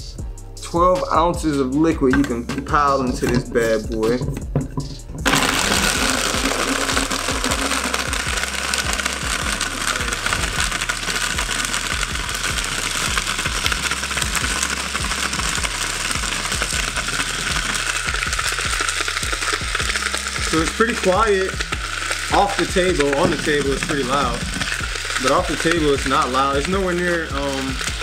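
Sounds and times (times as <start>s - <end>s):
blender motor whirring: 5.2s - 28.0s.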